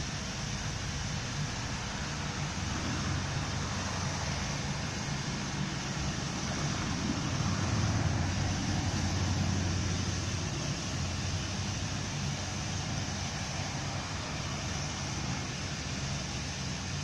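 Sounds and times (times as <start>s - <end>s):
steam locomotive hissing and rumbling: 0.0s - 17.0s.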